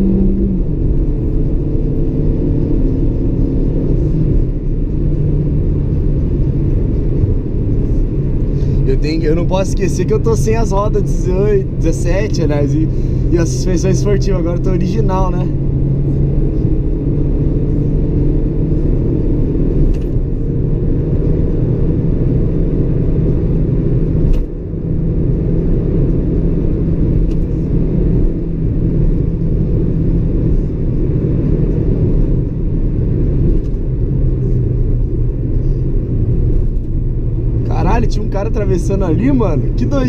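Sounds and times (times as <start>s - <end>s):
car engine hum: 0.0s - 40.0s
road noise: 0.0s - 40.0s.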